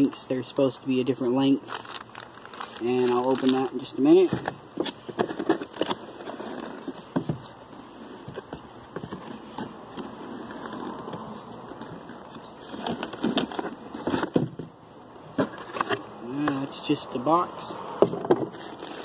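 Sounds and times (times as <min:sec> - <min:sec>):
cardboard rustling and scraping: 0:01.6 - 0:16.8, 0:18.0 - 0:19.0.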